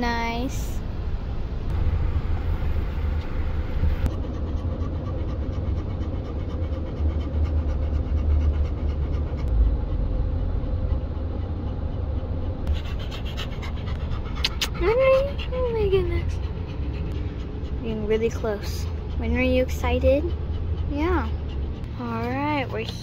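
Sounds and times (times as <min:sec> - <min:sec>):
moving car rumble: 0:00.0 - 0:23.0
dog panting: 0:04.0 - 0:23.0.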